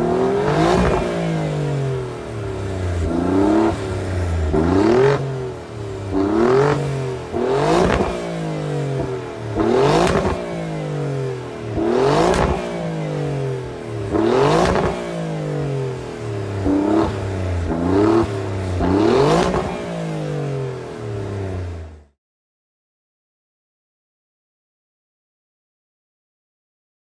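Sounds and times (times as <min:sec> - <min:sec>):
car engine revving: 0:00.0 - 0:22.1.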